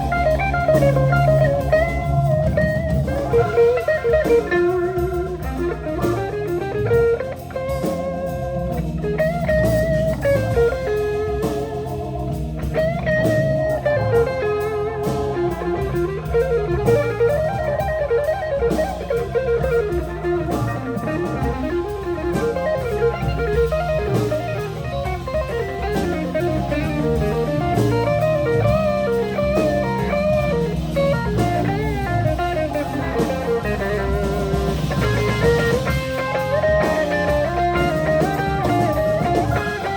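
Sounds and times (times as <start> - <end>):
bluesy electric guitar lead: 0.0 - 39.9
steady drum beat: 0.0 - 39.9
sustained organ chords: 0.0 - 39.9.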